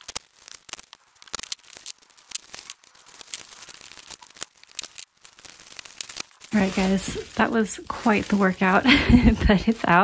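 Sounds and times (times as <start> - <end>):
plastic tape peeling and tearing: 0.0 - 10.0.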